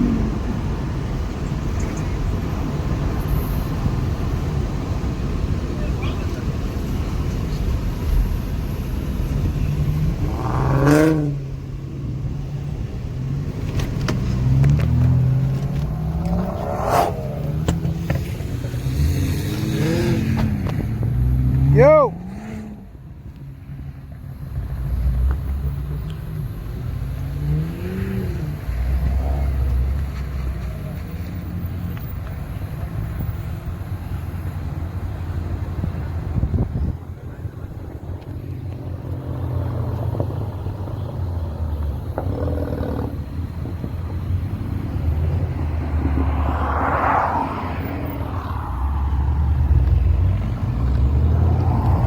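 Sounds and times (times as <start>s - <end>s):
car engines idling: 0.0s - 52.0s.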